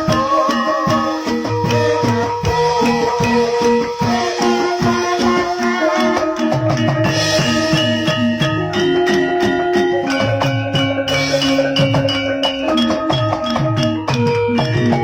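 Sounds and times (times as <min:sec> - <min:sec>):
metallophone notes: 0:00.0 - 0:15.0.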